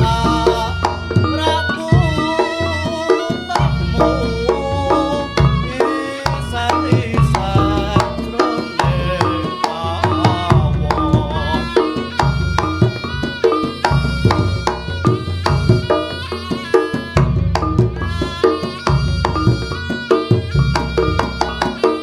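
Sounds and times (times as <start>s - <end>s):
hand drums and percussion: 0.0s - 22.0s
heavy pulsing bass: 0.0s - 22.0s
wavering melodic line: 0.0s - 22.0s.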